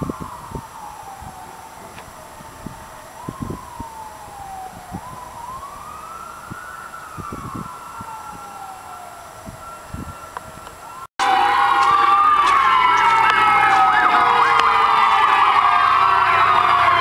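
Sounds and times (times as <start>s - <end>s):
distant fire truck siren: 0.0s - 17.0s.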